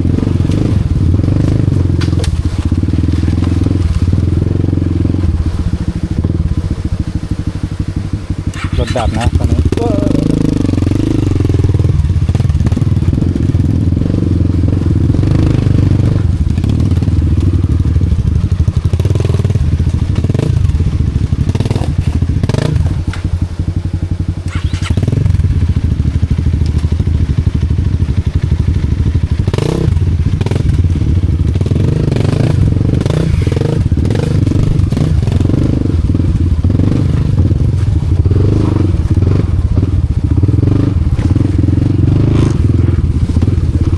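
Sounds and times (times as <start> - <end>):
motorcycle engine at low revs: 0.0 - 43.9.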